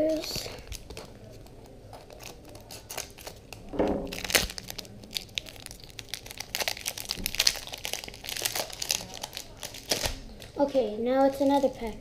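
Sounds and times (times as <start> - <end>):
plastic packaging tearing: 0.1 - 10.5
plastic packaging crinkling: 0.1 - 10.6, 11.2 - 11.9.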